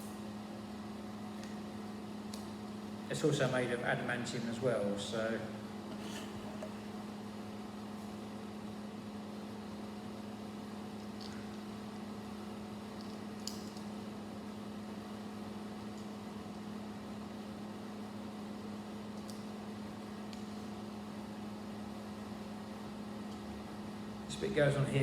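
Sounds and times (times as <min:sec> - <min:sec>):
electrical hum with hiss: 0:00.0 - 0:25.0.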